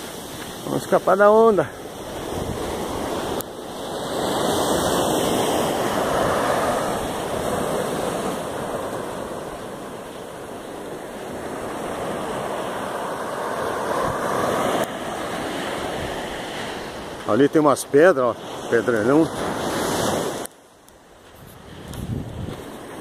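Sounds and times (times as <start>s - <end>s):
ocean surf breaking on beach: 0.0s - 23.0s.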